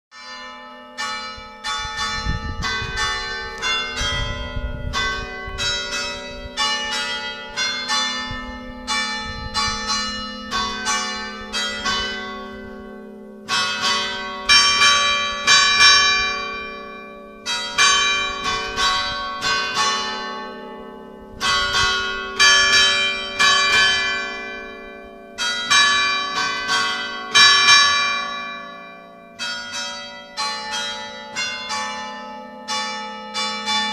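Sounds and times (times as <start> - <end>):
church bells pealing: 0.1 - 33.9.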